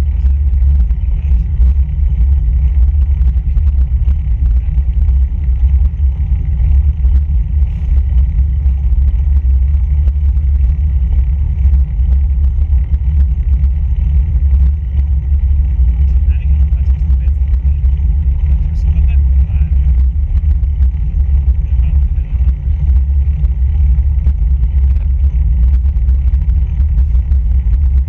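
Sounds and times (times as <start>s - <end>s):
road vibration rumble: 0.0s - 28.0s
wind buffeting microphone: 0.0s - 28.0s.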